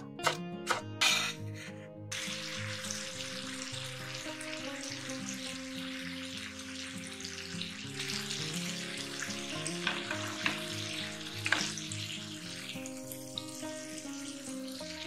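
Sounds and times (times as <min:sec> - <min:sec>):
chicken sizzling in hot oil: 0:02.1 - 0:15.0.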